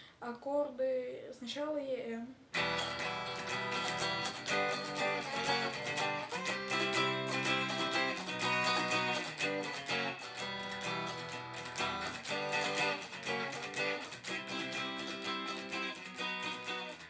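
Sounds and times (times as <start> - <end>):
guitar strumming: 2.6 - 17.0.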